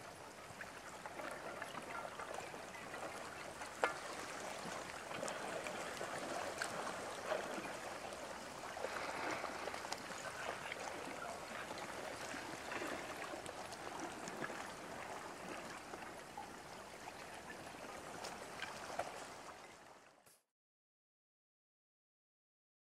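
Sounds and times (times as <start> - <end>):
watery wash at shoreline: 0.0 - 20.3.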